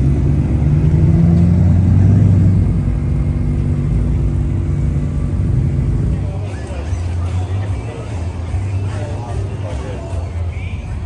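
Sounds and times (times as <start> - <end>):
car engine with deep exhaust: 0.0 - 11.0.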